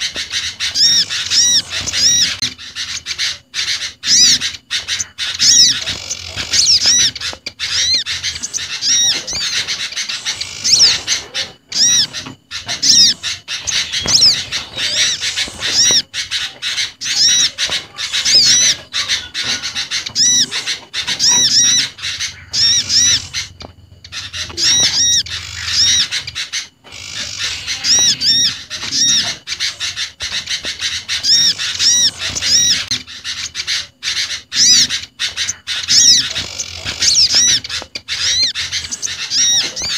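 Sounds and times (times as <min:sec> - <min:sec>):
harsh bird notes: 0:00.0 - 0:32.9
small birds chirping: 0:00.0 - 0:39.9.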